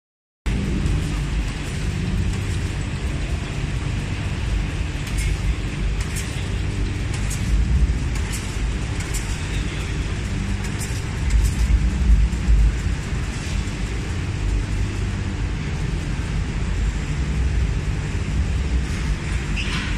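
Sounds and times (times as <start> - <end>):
hall background rumble: 0.5 - 19.9.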